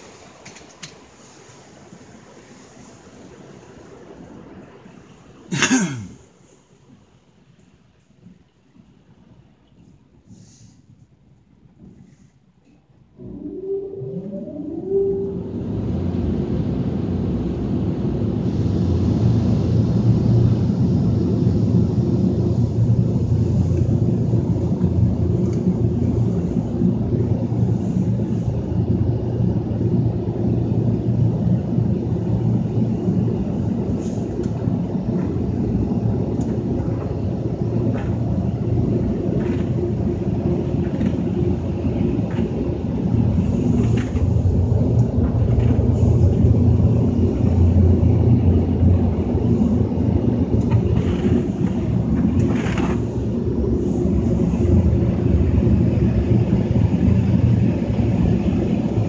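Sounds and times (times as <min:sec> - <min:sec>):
car wash machinery rumbling: 0:00.0 - 0:59.0.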